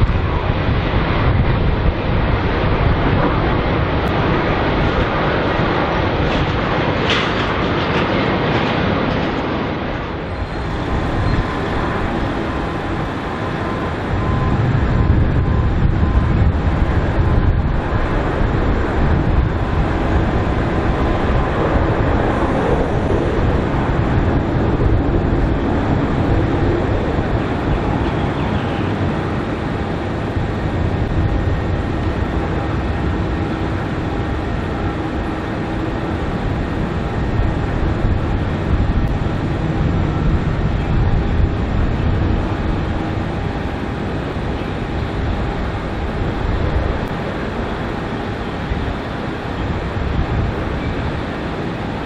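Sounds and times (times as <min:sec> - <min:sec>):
faint jet whine: 0:00.0 - 0:52.0
jet engine rumble: 0:00.0 - 0:52.0.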